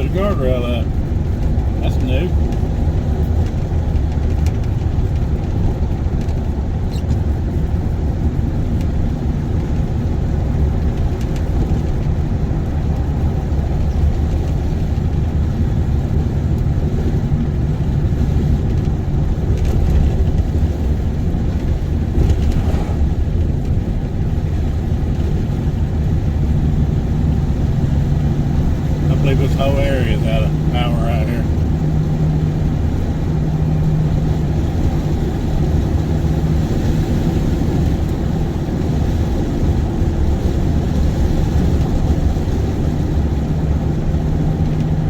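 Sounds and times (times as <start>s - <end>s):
vehicle engine rumble: 0.0s - 45.0s.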